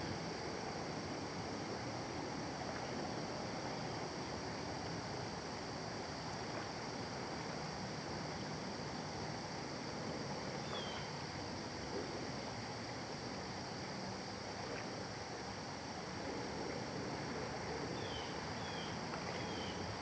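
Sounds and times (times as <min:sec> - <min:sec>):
creekside ambient noise: 0:00.0 - 0:20.0
high insect drone: 0:00.0 - 0:20.0.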